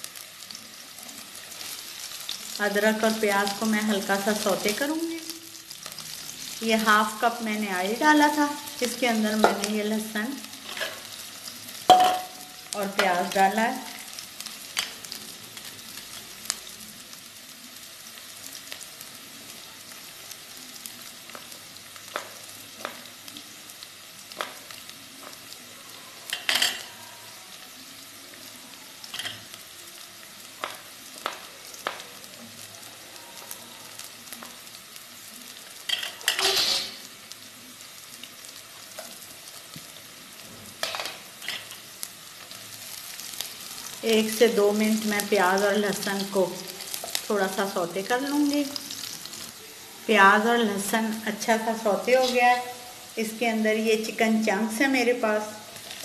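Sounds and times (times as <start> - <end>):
onion sizzling in oil: 0.0 - 56.0.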